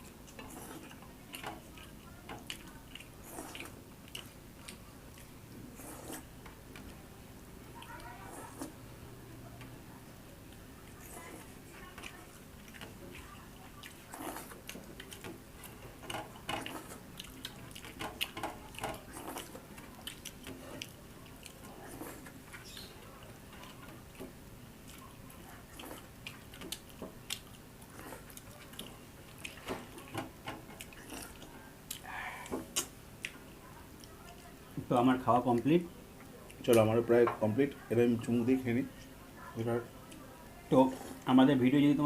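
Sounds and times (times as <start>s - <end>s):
people chewing food: 0.0s - 42.0s.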